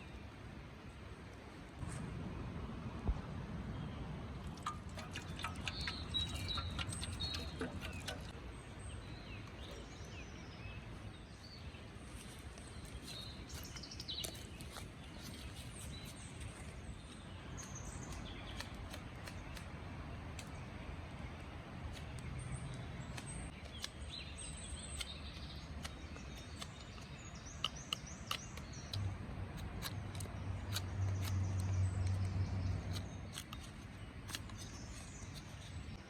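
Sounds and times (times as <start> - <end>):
low outdoor rumble: 0.0 - 36.0
birds chirping: 1.8 - 36.0.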